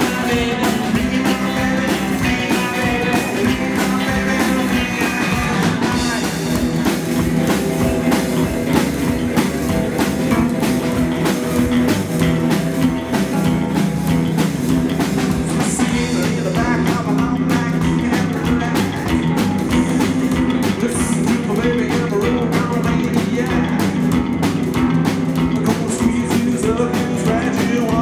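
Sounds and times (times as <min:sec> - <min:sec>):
drum kit beat: 0:00.0 - 0:28.0
electric guitars: 0:00.0 - 0:28.0
upright double bass: 0:00.0 - 0:28.0.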